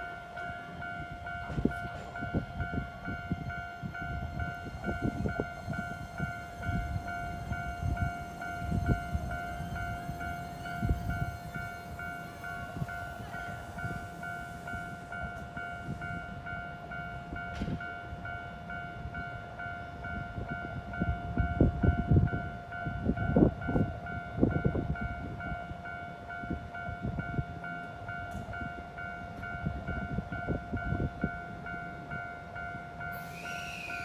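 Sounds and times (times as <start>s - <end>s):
level crossing warning bell: 0.0s - 34.0s.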